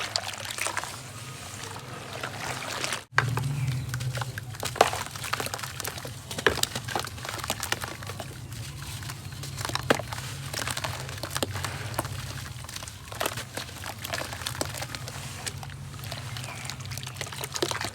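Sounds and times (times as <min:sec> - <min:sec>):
sand crunching: 0:00.8 - 0:17.9.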